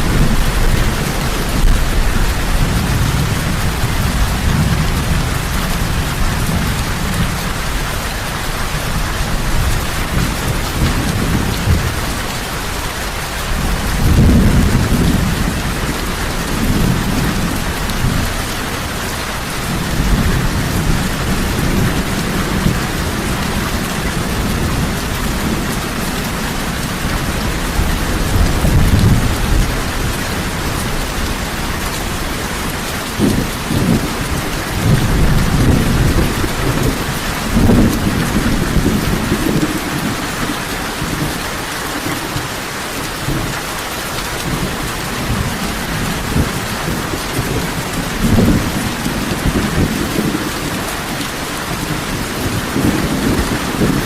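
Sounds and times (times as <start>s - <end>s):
thunder rumbling: 0.0s - 42.5s, 43.1s - 54.0s
heavy rain falling: 0.0s - 54.0s.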